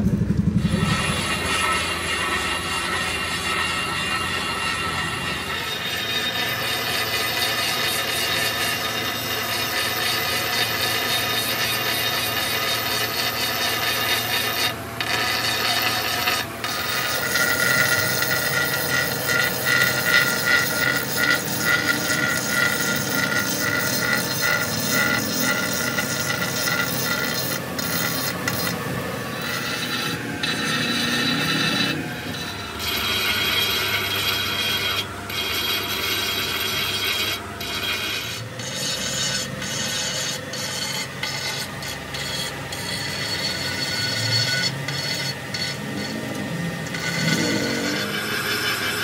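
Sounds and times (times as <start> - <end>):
machine grinding metal: 0.0 - 49.0
pulsing high squeal: 0.0 - 49.0.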